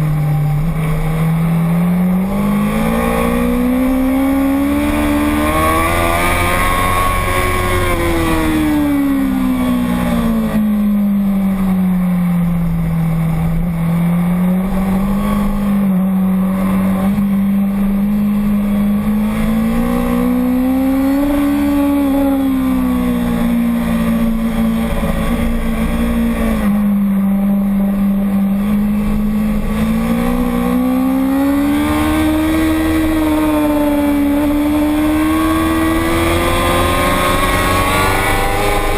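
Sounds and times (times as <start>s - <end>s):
motorcycle engine at speed: 0.0s - 38.9s.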